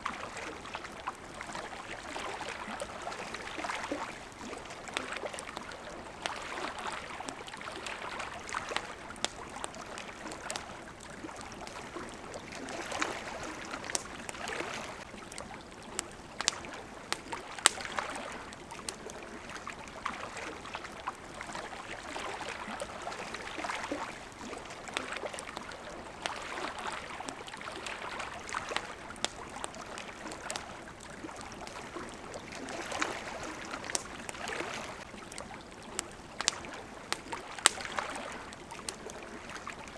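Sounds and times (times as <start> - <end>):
campfire crackling and popping: 0.0 - 39.9
water lapping at shore: 0.0 - 39.9.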